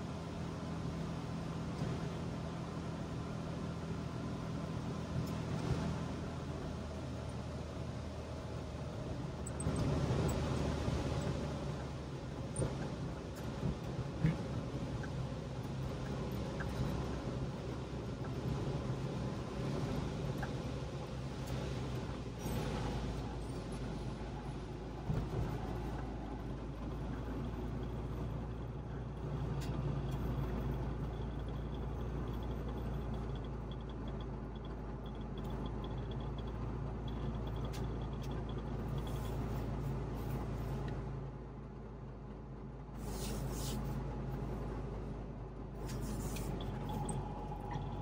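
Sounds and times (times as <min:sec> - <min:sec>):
two-stroke car engine running: 0:00.0 - 0:40.6
road noise: 0:00.0 - 0:48.0.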